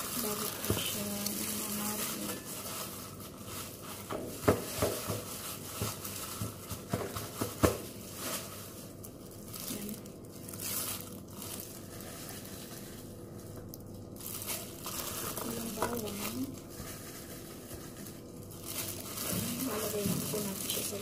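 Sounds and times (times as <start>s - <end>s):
plastic gloves crinkling: 0.0s - 21.0s.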